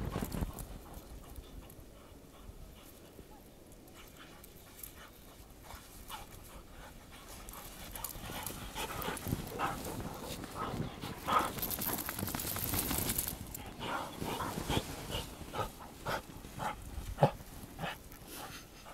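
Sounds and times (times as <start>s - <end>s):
dog panting: 0.8s - 12.2s, 13.6s - 18.9s.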